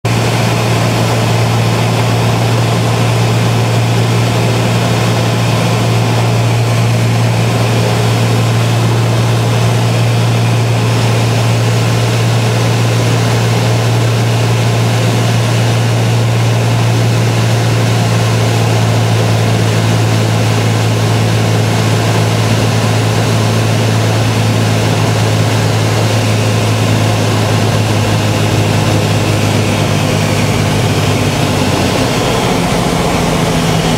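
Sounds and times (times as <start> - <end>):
airplane engine droning: 0.0 - 33.9.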